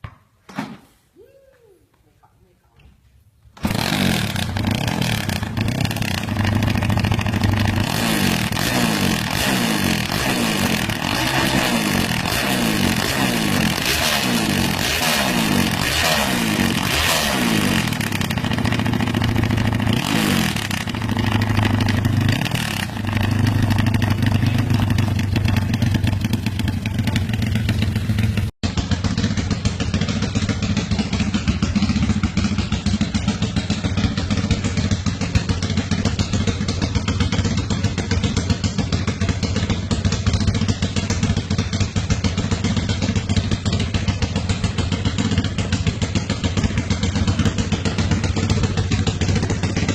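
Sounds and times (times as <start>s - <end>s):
motorcycle engine revving: 3.6s - 49.9s
motorcycle pulsing exhaust: 3.6s - 49.9s.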